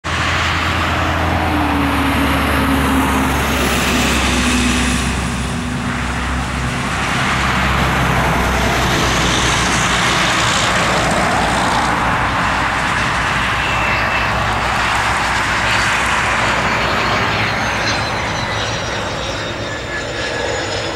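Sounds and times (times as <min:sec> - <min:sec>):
vehicle engine roar: 0:00.0 - 0:20.9.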